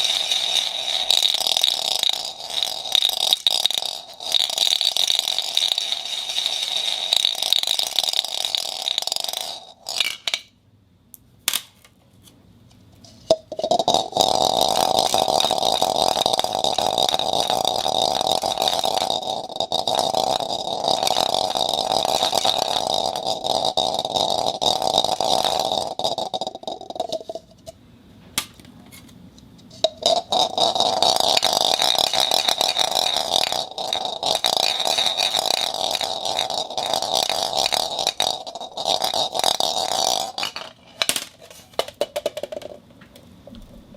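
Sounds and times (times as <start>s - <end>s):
marbles rattling in plastic cup: 0.0s - 10.5s, 13.3s - 27.5s, 29.8s - 42.8s.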